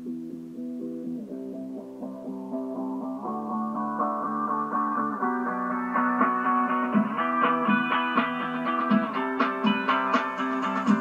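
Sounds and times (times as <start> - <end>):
guitar music from car stereo: 0.0 - 11.0.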